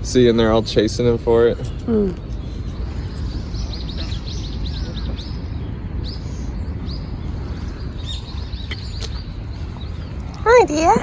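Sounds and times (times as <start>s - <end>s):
small bird chirping: 1.4s - 10.6s.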